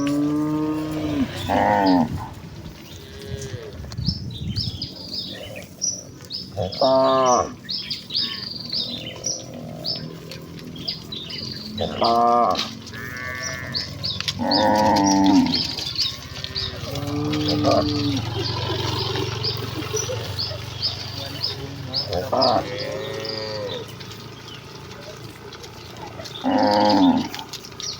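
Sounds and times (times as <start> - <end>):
cattle mooing: 0.0 - 3.9, 6.6 - 7.6, 8.2 - 27.9.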